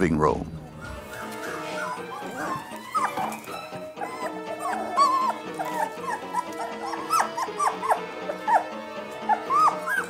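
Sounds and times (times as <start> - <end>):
background music: 0.0 - 10.0
puppies whimpering and yipping: 0.7 - 10.0.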